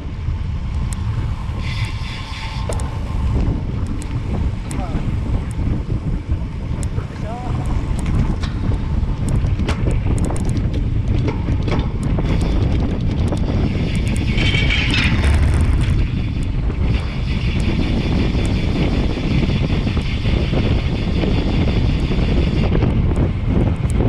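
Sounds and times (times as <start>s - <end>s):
bike tyre rumble: 0.0s - 24.0s
wind buffeting microphone: 0.0s - 24.0s.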